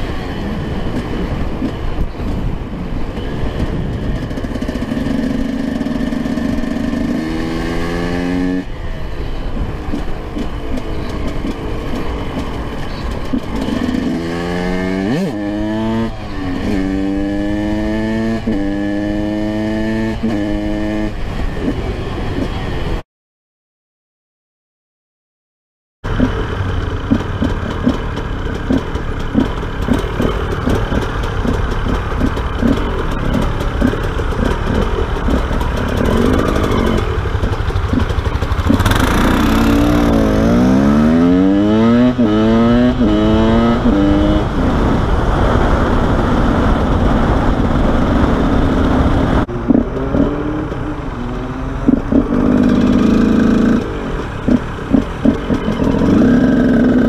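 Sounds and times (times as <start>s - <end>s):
two-stroke motorcycle engine: 0.0s - 22.8s, 26.1s - 57.0s.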